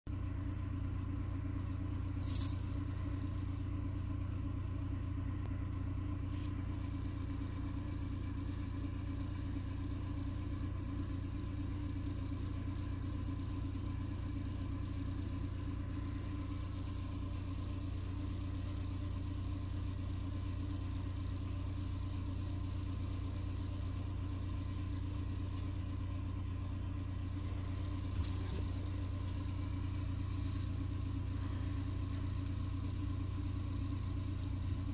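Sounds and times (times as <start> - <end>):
low mechanical hum: 0.1 - 34.9.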